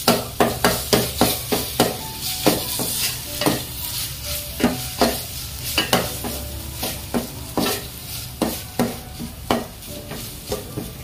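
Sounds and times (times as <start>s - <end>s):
paste sizzling in oil: 0.0s - 11.0s
metal spatula scraping pot: 0.1s - 11.0s.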